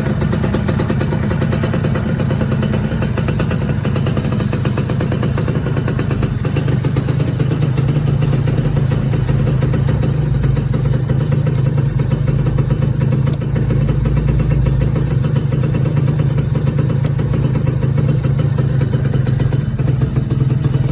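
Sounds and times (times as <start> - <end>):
two-stroke engine idling: 0.0 - 20.9.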